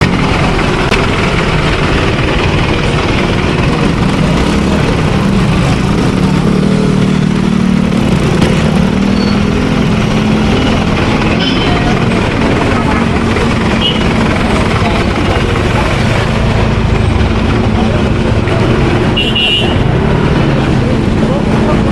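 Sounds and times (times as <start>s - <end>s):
vehicle engines running: 0.0s - 21.9s.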